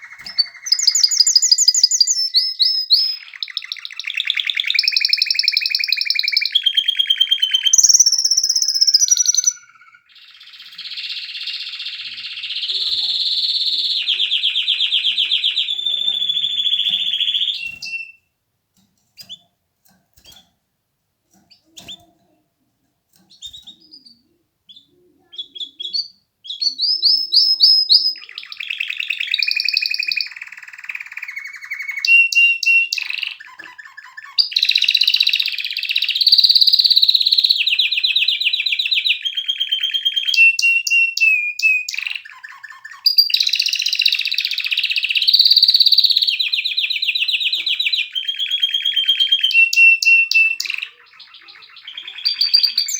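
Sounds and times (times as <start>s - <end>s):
canary chirping and trilling: 0.0s - 52.9s.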